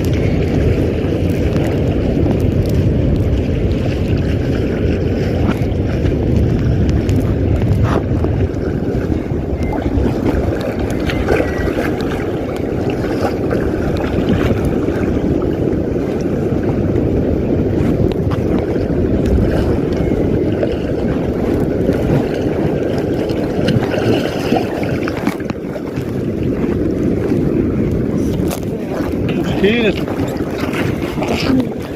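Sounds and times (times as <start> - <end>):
sea water washing: 0.0 - 31.9
wind buffeting microphone: 0.0 - 31.9.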